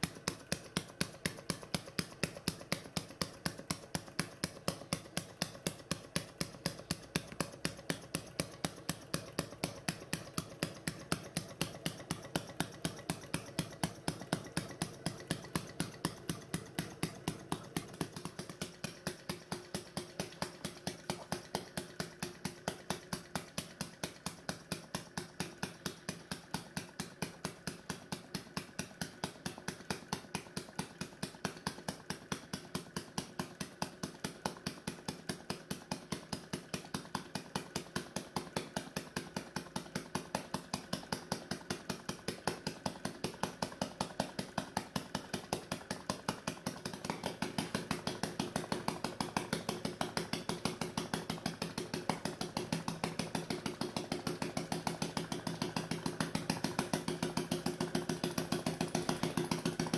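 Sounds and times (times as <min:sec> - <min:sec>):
model engine fast ticking: 0:00.0 - 0:59.9.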